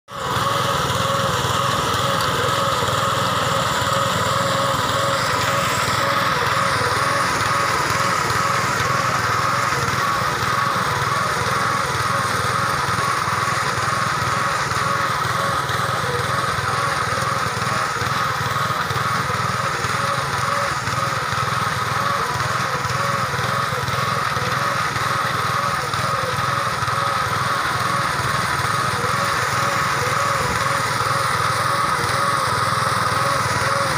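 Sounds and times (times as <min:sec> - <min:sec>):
small engine droning: 0:00.0 - 0:33.9.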